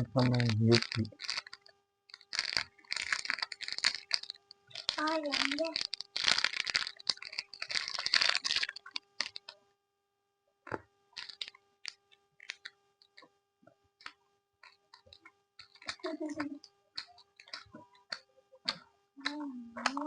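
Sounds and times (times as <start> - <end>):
close-up chewing gummy candy: 0.2 - 9.6, 11.2 - 13.2, 14.0 - 20.0.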